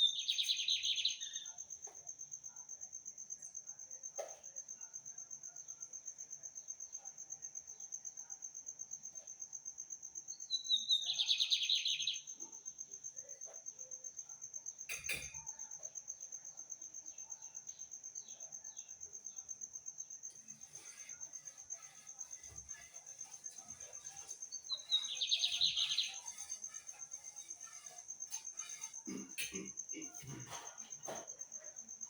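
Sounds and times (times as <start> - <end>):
cricket chirring: 0.0 - 32.0.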